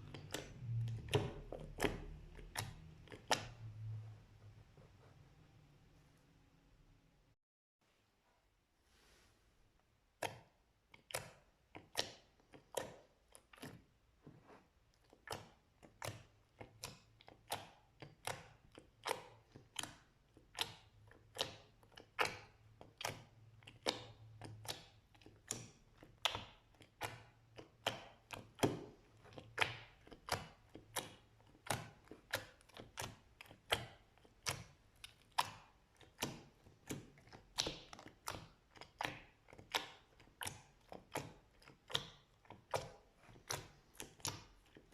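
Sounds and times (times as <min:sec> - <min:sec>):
slime clicking and popping: 0:00.0 - 0:03.7, 0:10.2 - 0:13.8, 0:15.0 - 0:44.9.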